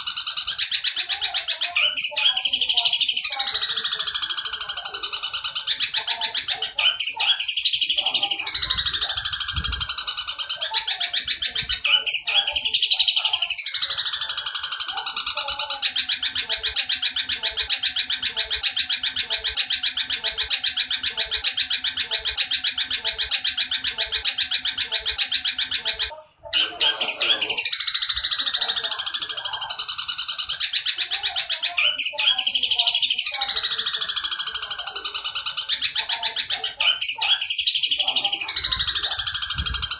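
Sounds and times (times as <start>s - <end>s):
bird harsh chattering calls: 0.0s - 39.9s.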